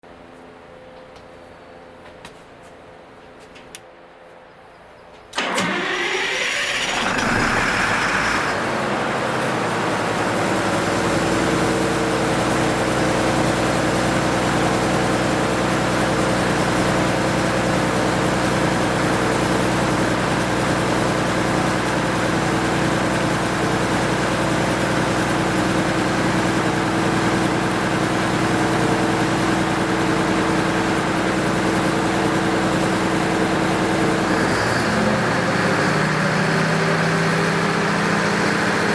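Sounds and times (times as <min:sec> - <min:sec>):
diesel generator engine running: 0:05.2 - 0:38.9.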